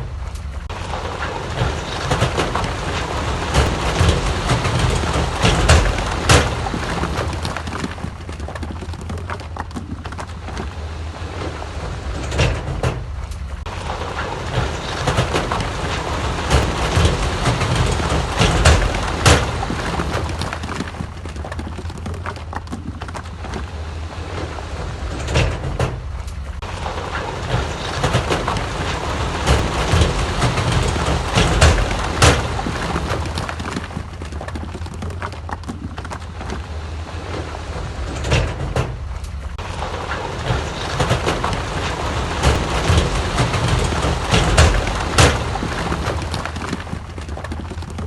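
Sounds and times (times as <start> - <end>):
rock and steel clanking: 0.0 - 48.0.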